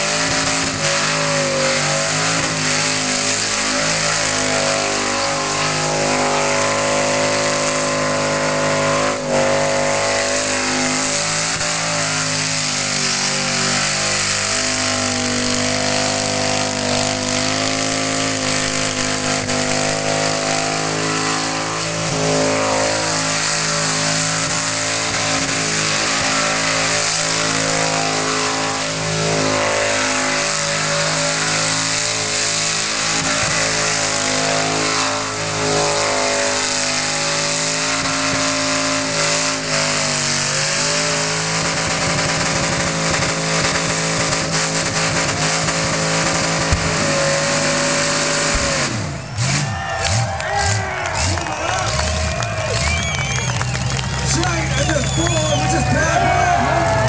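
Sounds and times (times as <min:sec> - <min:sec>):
engine revving high: 0:00.0 - 0:57.0.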